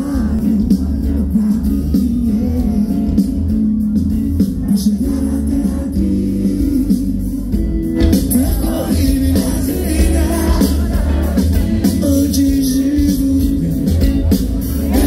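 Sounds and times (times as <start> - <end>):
man singing into microphone: 0.0 - 14.0
bass guitar: 0.0 - 15.0
drums: 0.0 - 15.0
electric guitar: 0.0 - 15.0.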